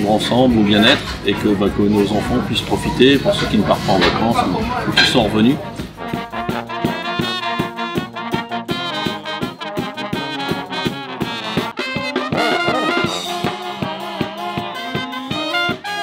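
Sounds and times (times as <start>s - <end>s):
brass band playing: 0.0s - 16.0s
steady drum beat: 0.0s - 16.0s.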